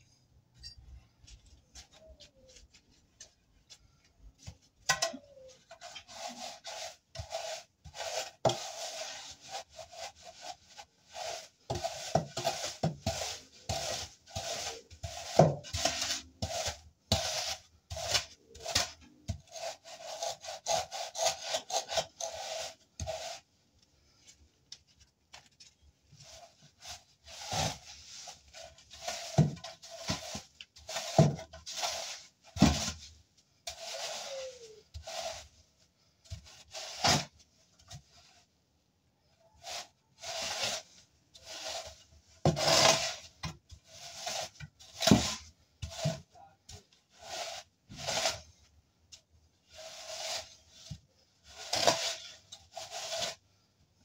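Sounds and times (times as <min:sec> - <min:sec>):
hand tool scraping mortar: 0:04.9 - 0:23.5, 0:26.1 - 0:35.7, 0:36.3 - 0:38.0, 0:39.5 - 0:53.4.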